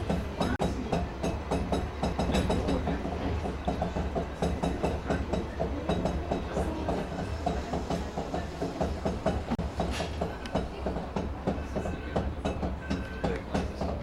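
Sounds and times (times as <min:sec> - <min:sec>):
track clicking and clacking: 0:00.0 - 0:14.0
train wheels and motors rumbling: 0:00.0 - 0:14.0.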